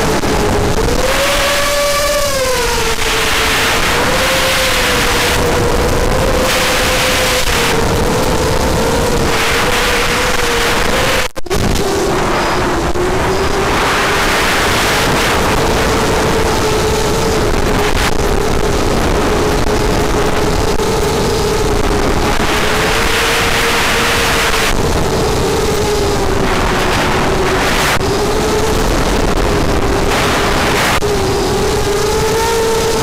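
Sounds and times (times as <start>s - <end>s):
drone motors whining: 0.0s - 33.0s
wind rush on microphone: 0.0s - 33.0s.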